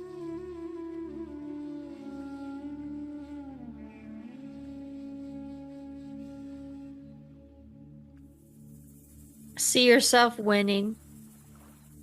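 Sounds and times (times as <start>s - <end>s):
ambient meditation music: 0.0s - 12.0s.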